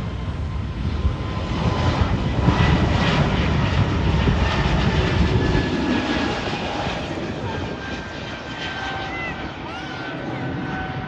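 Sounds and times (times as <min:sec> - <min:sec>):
faint steady engine whine: 0:00.0 - 0:11.0
jet engines roaring at takeoff: 0:00.0 - 0:11.0.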